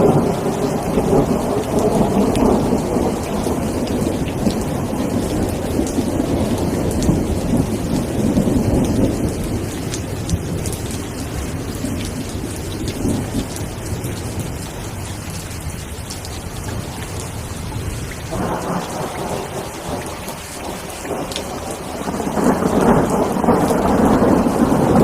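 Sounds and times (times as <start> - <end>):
rain falling: 0.0 - 25.0
thunder rumbling: 0.0 - 25.0.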